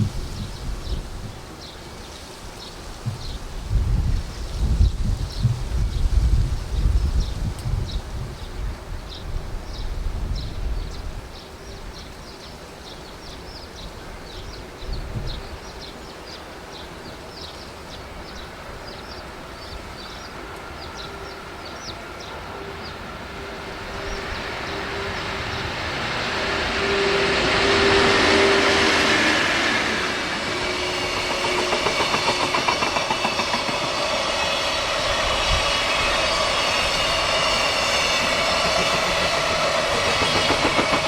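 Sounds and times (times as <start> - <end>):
freight train rumble and hum: 0.0 - 41.0.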